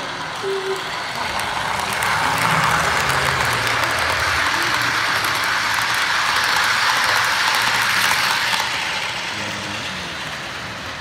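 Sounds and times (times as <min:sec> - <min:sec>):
model train wheels rolling on rails: 0:00.0 - 0:11.0.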